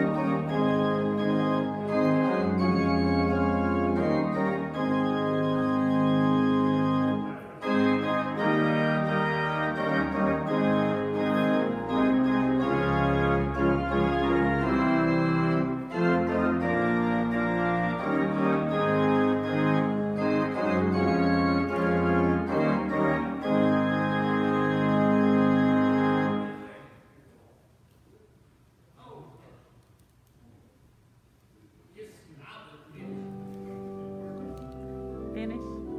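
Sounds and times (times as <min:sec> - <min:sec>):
church organ chords: 0:00.0 - 0:26.9, 0:33.0 - 0:35.9.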